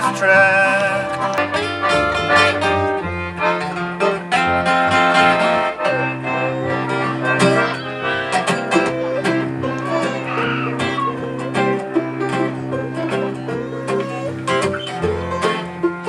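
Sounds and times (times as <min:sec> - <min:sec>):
acoustic country band playing: 0:00.0 - 0:16.0.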